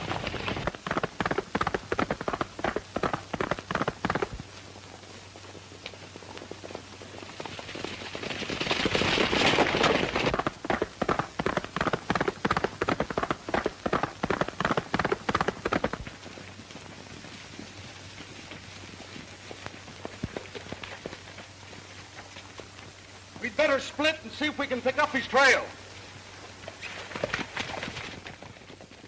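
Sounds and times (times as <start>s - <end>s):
horses galloping hoofbeats: 0.0s - 29.0s.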